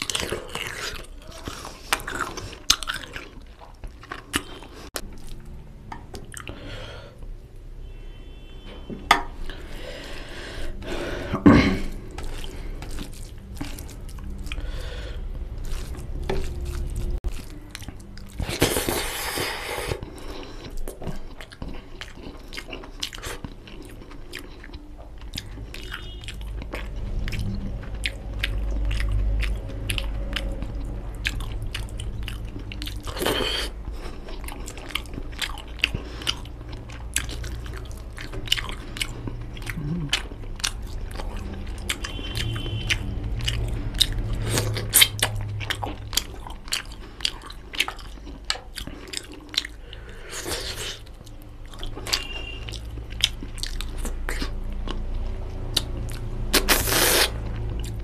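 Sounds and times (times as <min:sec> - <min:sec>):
man chewing food: 0:00.0 - 0:07.6, 0:09.0 - 0:58.0.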